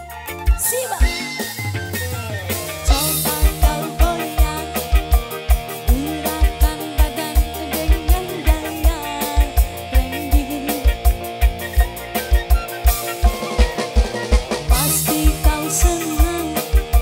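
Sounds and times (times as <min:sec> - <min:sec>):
dangdut music: 0:00.0 - 0:17.0
steady drum beat: 0:00.0 - 0:17.0.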